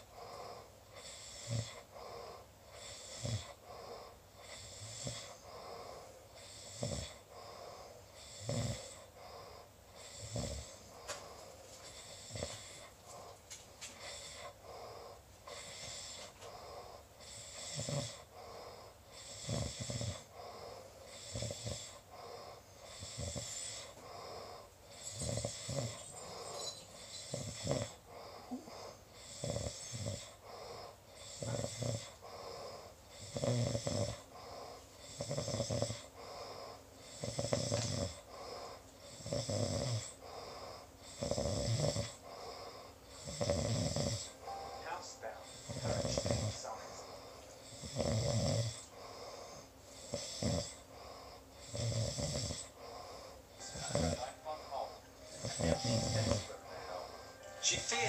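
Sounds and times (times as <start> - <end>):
person snoring: 0.0 - 11.4, 12.0 - 13.4, 14.0 - 58.0.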